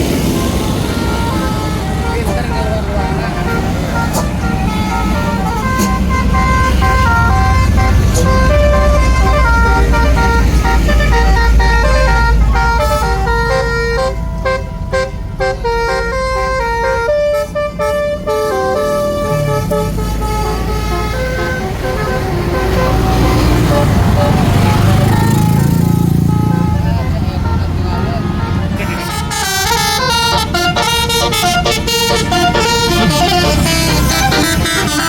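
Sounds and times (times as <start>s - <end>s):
bus engine rumbling: 0.0s - 35.0s
musical bus horn melody: 0.0s - 35.0s.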